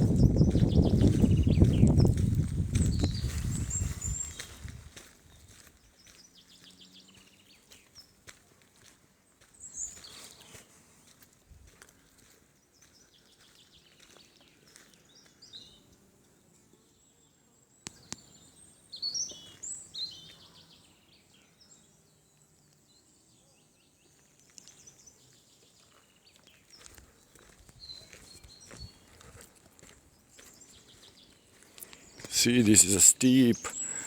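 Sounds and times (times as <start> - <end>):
songbirds singing: 0.0 - 8.3, 9.3 - 10.7, 12.6 - 34.0.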